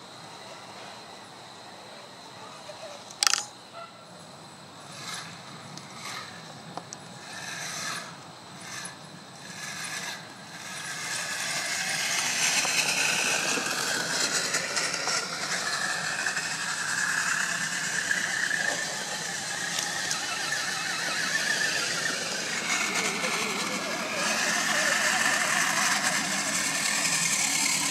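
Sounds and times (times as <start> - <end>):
rc truck motor whining: 4.8 - 27.9.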